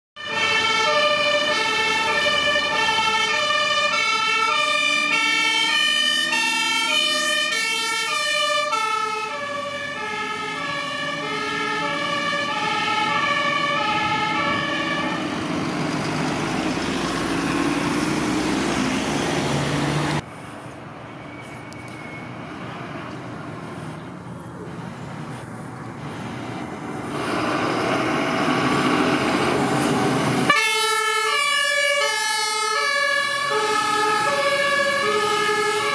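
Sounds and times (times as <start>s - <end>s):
fire engine two-tone siren: 0.2s - 20.2s, 27.2s - 35.9s
street background: 0.2s - 35.9s
truck engine and tyre noise: 0.2s - 35.9s.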